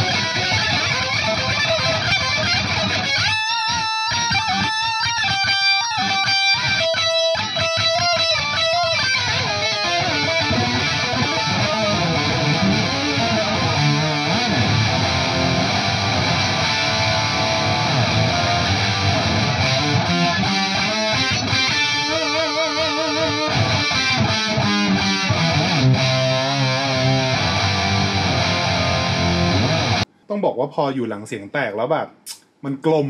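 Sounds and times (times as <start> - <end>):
distorted electric guitar with harmony: 0.0 - 30.1.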